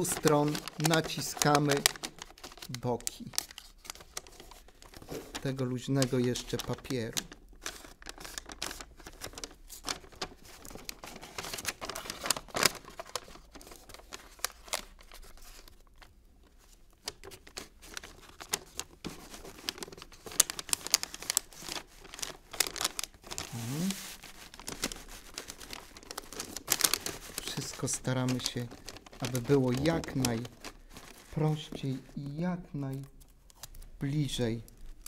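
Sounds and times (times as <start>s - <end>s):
wrapping paper crinkling: 0.0s - 35.0s.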